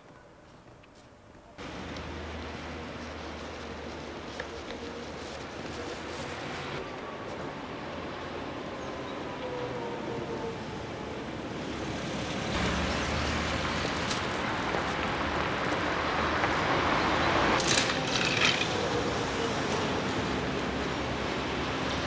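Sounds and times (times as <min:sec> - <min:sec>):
bus passing close: 0:01.6 - 0:22.0
cars driving past: 0:01.6 - 0:22.0.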